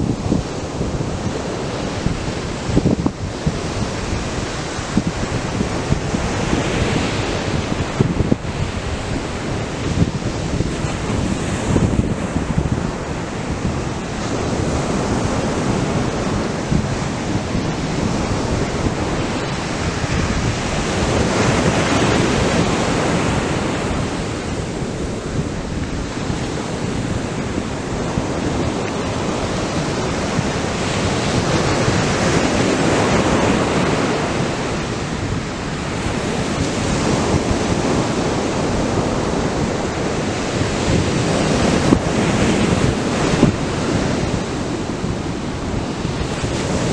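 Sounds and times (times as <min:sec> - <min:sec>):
surf breaking on beach: 0:00.0 - 0:46.9
wind buffeting microphone: 0:00.0 - 0:46.9.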